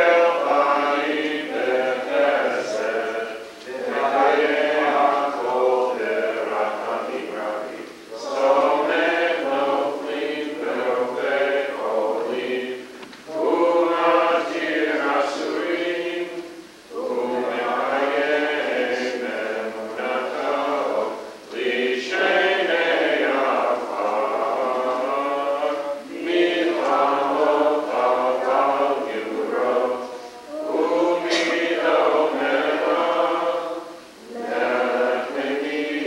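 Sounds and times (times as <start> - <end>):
congregation chanting a prayer: 0.0 - 36.0.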